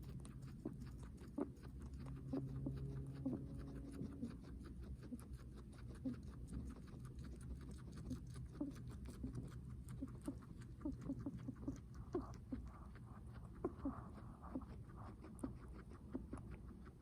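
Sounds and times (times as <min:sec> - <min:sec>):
guinea pig breathing heavily: 0:00.0 - 0:17.0
low steady hum: 0:00.0 - 0:17.0.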